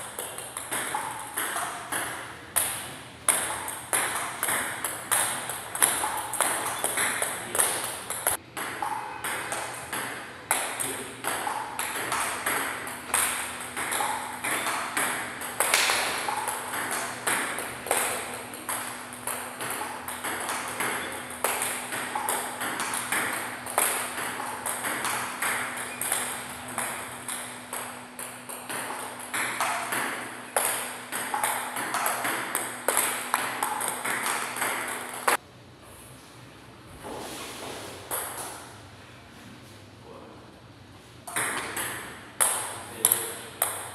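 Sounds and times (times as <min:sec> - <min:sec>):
table tennis balls clicking: 0:00.0 - 0:35.4, 0:41.3 - 0:43.9.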